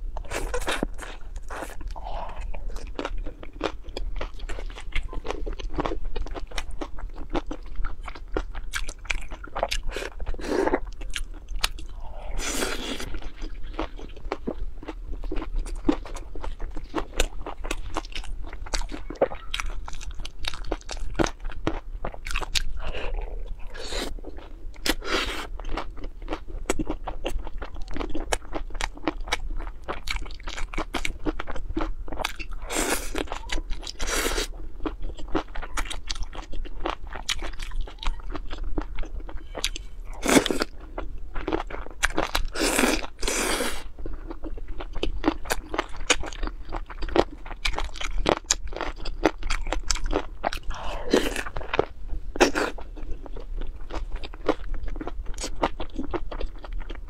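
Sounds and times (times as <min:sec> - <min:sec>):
wet chewing and crunching: 0:00.2 - 0:57.0.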